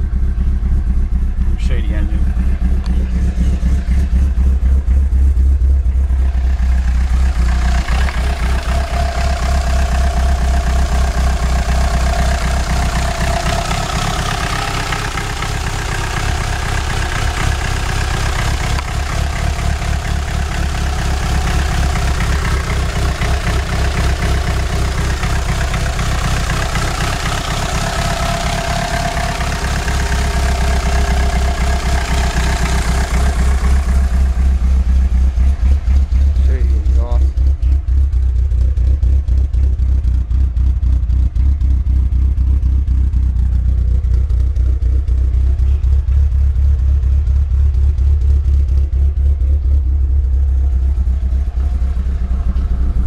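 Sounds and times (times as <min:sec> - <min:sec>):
car engine idling: 0:00.0 - 0:53.0
exhaust leak noise: 0:00.0 - 0:53.0.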